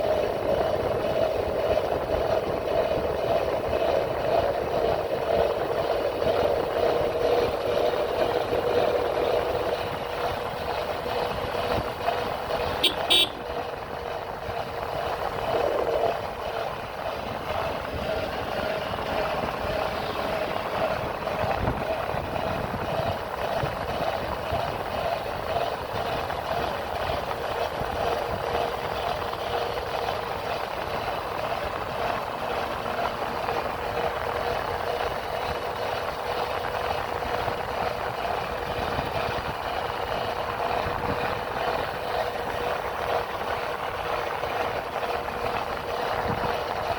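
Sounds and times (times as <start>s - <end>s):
motorcycle engine running: 0.0s - 46.9s
rushing wind noise: 0.0s - 46.9s.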